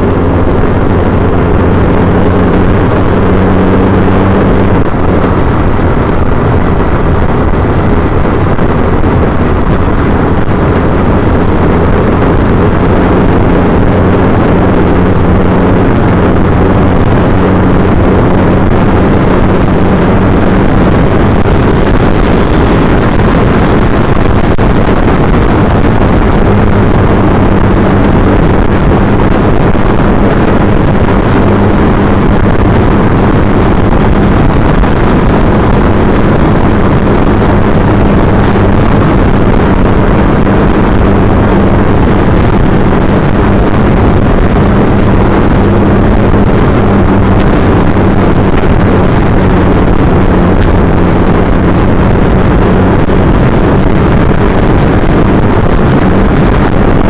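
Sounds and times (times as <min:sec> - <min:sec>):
motorcycle engine droning: 0:00.0 - 0:57.0
wind rush over microphone: 0:00.0 - 0:57.0.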